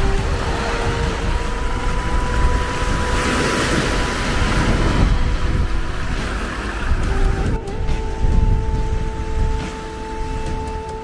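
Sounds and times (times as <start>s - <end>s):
small waves washing onto beach: 0.0s - 11.0s
wind rumbling on microphone: 0.0s - 11.0s.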